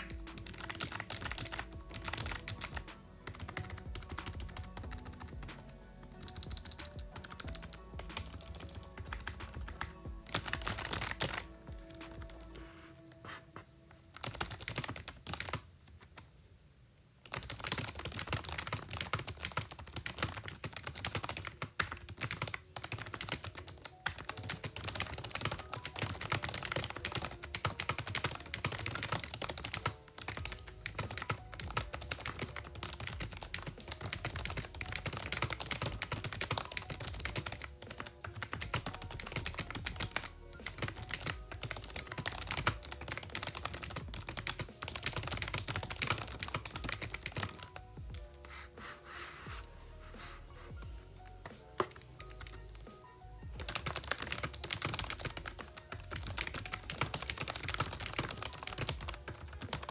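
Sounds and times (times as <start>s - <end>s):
keyboard key presses: 0.0s - 12.6s, 14.1s - 16.2s, 17.3s - 47.8s, 51.4s - 59.9s.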